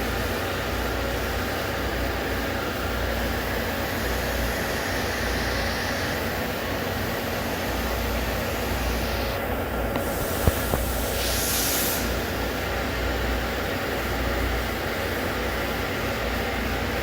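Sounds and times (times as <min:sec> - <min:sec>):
machinery humming and hissing: 0:00.0 - 0:17.0.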